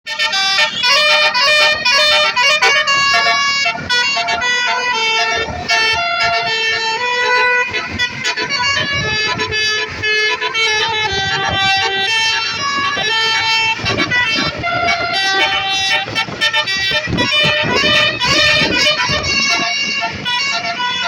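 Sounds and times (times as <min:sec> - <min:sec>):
multi-tone bus horn tune: 0:00.1 - 0:21.0.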